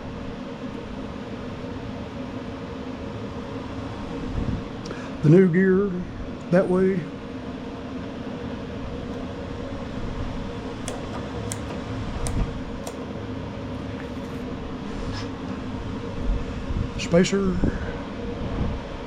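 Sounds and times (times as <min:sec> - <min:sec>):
fan humming: 0:00.0 - 0:17.4.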